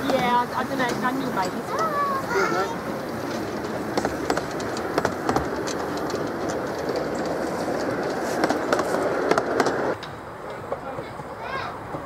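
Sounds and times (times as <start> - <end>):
train wheels rumbling: 0.0 - 12.0
wheels clicking over rail joints: 0.0 - 12.0.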